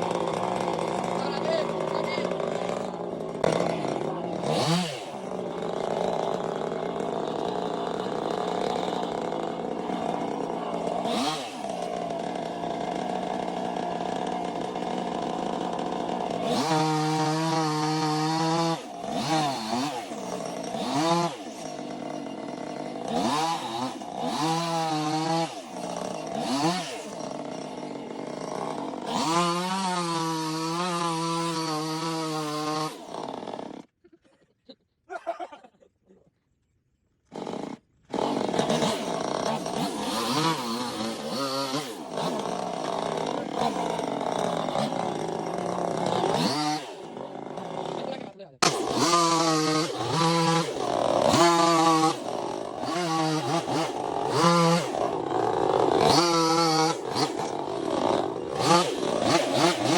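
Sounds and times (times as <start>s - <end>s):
chainsaw revving: 0.0s - 34.2s, 37.2s - 59.9s.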